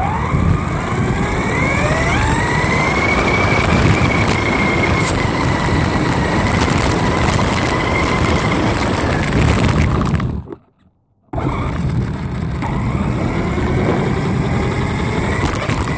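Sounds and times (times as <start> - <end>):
electric motor whining: 0.0 - 10.6, 11.4 - 15.9
tyres rumbling on rough pavement: 0.0 - 15.9.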